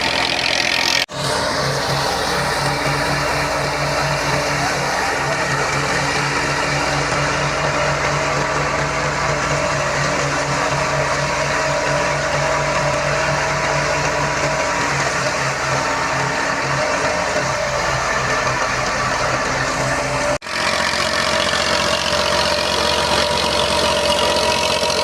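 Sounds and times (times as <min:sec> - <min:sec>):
thresher mechanical drone: 0:00.0 - 0:25.0.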